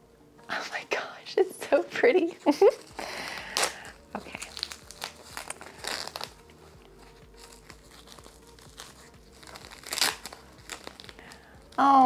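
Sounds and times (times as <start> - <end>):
paper wrapping rustling: 2.3 - 12.0.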